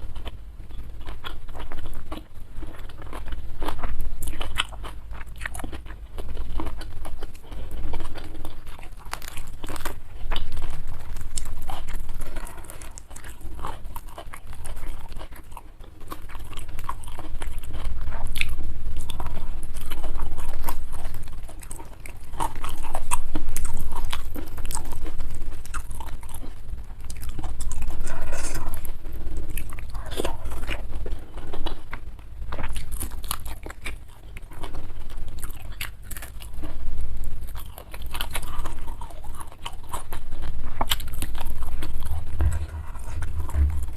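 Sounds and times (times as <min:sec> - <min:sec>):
person chewing and crunching: 0:00.0 - 0:43.9.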